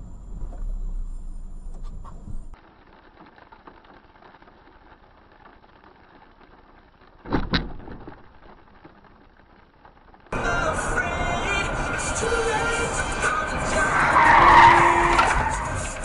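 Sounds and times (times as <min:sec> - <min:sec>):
faint road noise: 0:00.0 - 0:16.0.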